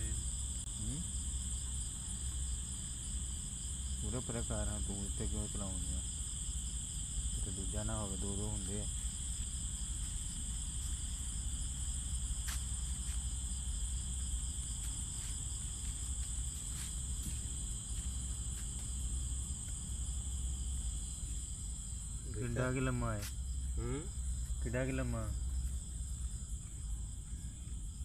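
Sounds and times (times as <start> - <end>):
crickets chirping: 0.0 - 28.0
low steady rumble: 0.0 - 28.0.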